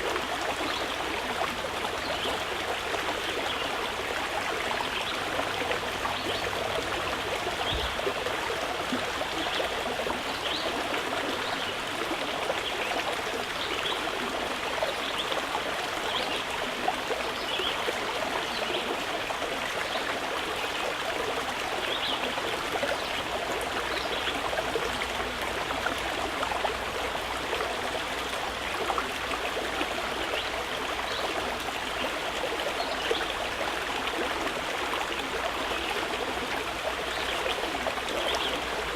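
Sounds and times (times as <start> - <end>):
flowing water babbling: 0.0 - 38.9.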